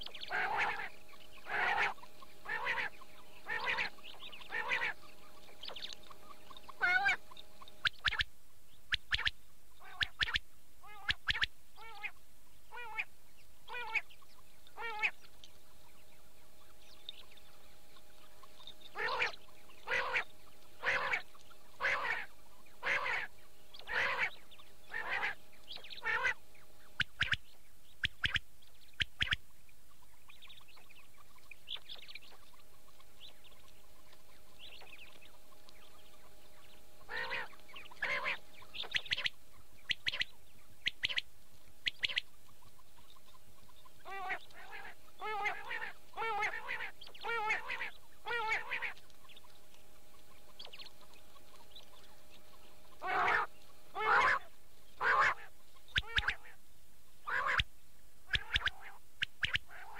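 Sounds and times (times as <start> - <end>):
quail calls: 0.0 - 8.3, 8.9 - 56.6, 57.2 - 59.9
faint steady hum: 0.0 - 59.9.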